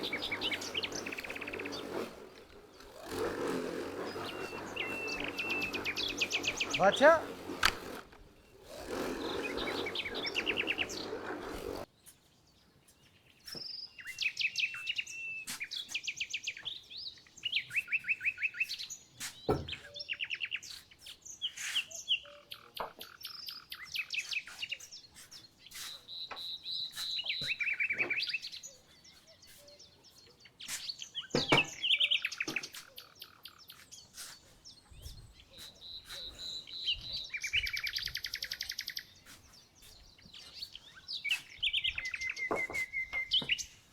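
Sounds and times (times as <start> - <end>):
small songbirds singing: 0.0 - 43.9.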